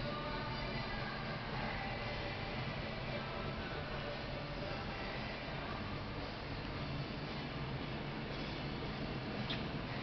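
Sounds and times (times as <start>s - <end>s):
background music: 0.0s - 10.0s
room noise: 0.0s - 10.0s.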